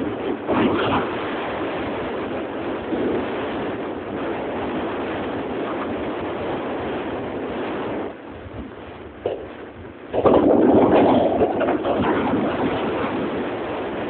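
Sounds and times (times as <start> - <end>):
heavy surf breaking: 0.0 - 14.0
wind buffeting microphone: 0.0 - 14.0.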